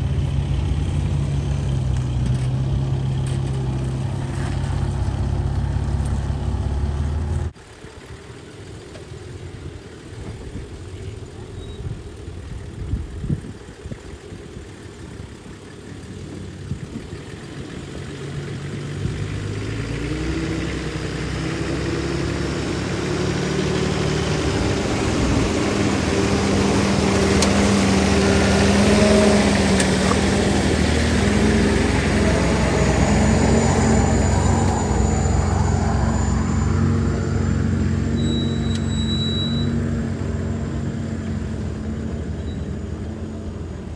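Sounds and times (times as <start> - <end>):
vehicle engine on rough track: 0.0 - 43.9.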